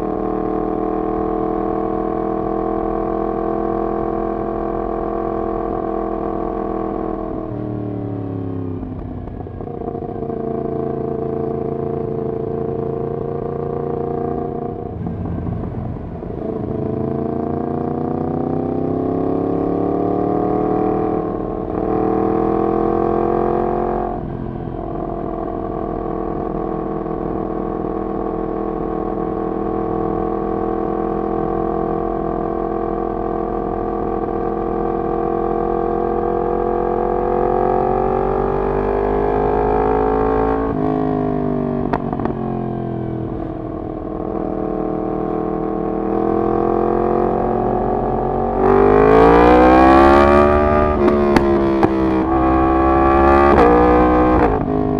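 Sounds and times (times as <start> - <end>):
motorcycle engine revving: 8.2 - 54.9.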